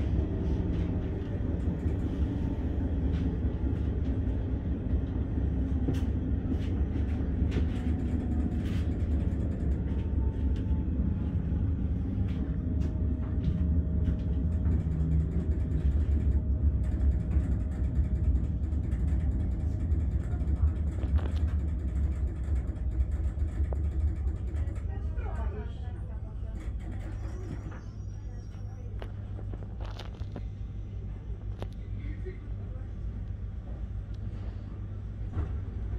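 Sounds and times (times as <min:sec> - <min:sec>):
train rumbling on the track: 0:00.0 - 0:35.9.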